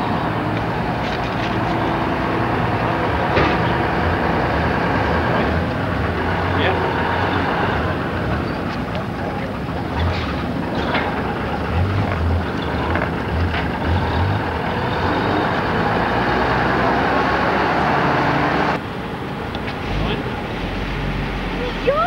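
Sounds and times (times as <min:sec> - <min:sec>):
lorry engine rumbling at low speed: 0:00.0 - 0:22.0.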